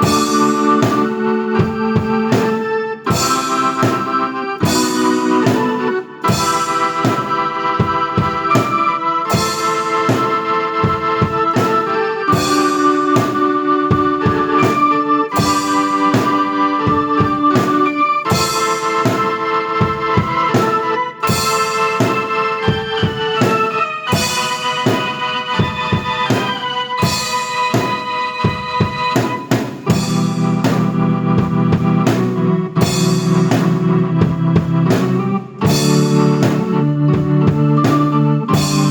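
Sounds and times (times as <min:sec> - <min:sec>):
drum kit beat: 0:00.0 - 0:38.9
keyboard sustained chords: 0:00.0 - 0:38.9.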